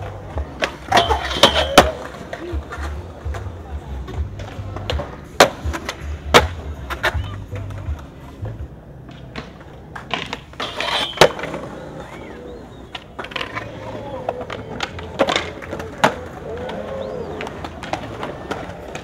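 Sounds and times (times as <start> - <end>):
skateboard clacks and landings: 0.0 - 19.0
skateboard wheels rolling on concrete: 0.0 - 19.0.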